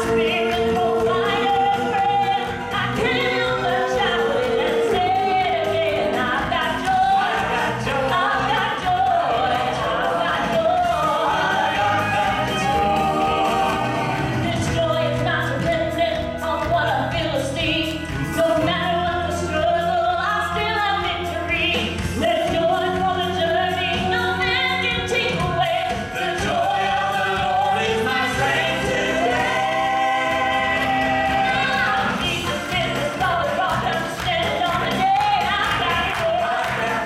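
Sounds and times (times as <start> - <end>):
vocal trio singing in harmony: 0.0 - 17.2, 18.2 - 37.0
instrumental accompaniment: 0.0 - 37.0.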